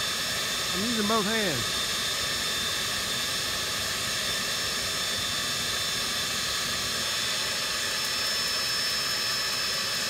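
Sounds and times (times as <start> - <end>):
jet turbine engine whining: 0.0 - 10.0.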